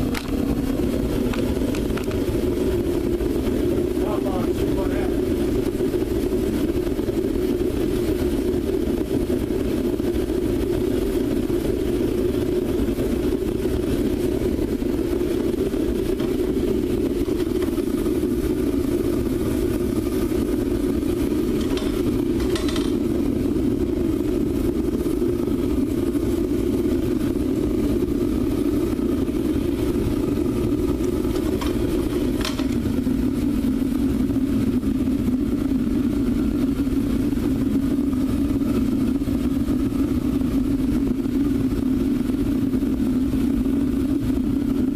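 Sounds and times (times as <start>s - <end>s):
furnace burner flame rushing: 0.0s - 44.9s.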